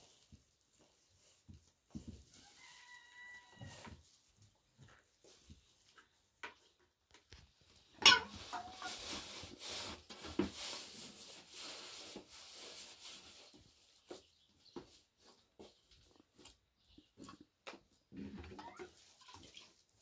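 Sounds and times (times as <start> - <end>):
dough kneaded in metal basin: 0.0 - 3.3, 3.9 - 20.0.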